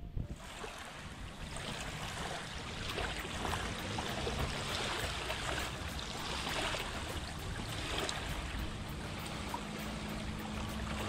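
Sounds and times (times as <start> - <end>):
small waves fizzing over sand: 0.4 - 11.0.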